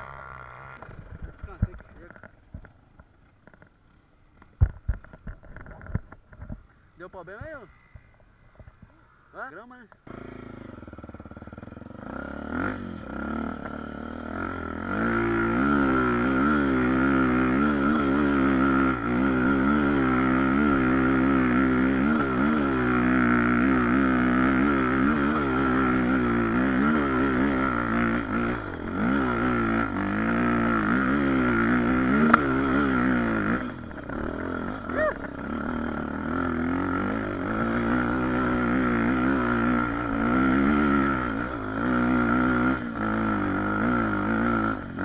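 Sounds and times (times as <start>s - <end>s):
dirt bike engine revving: 0.0s - 5.0s, 7.1s - 45.0s.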